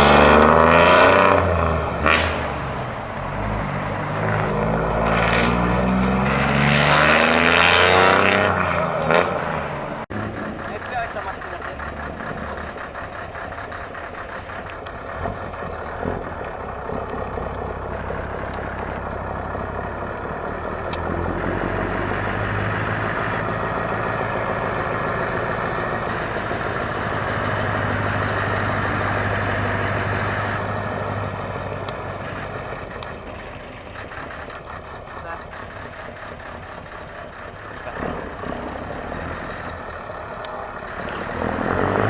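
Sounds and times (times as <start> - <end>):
truck engine low drone: 0.0 - 42.0.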